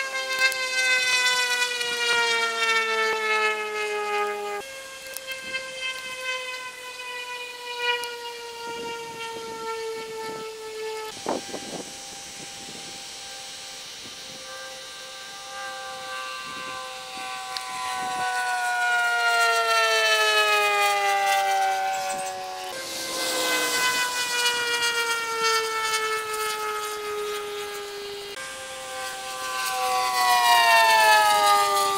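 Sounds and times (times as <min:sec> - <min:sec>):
propeller airplane engines droning: 0:00.0 - 0:31.9.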